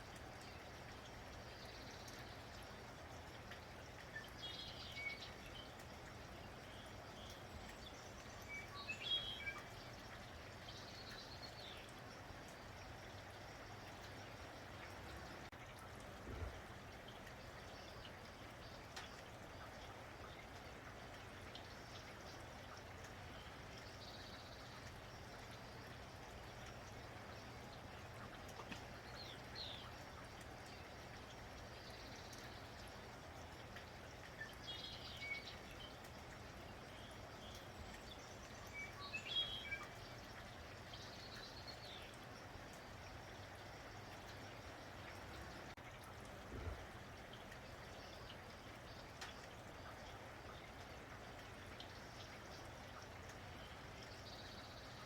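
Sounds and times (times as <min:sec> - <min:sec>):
faint rain falling: 0:00.0 - 0:55.0.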